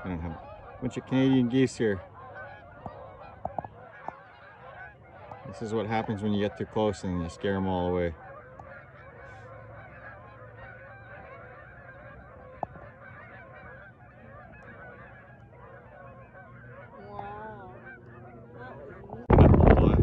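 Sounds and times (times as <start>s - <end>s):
geese honking in flight: 0.0s - 20.0s.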